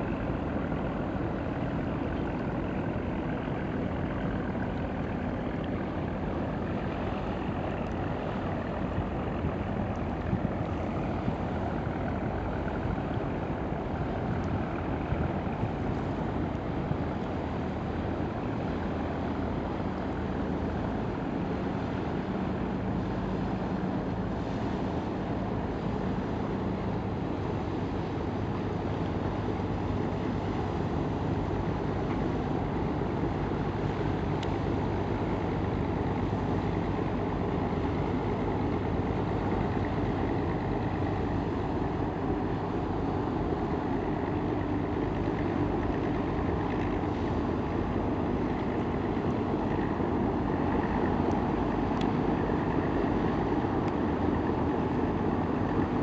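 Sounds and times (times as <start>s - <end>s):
barge engines droning: 0.0s - 56.0s.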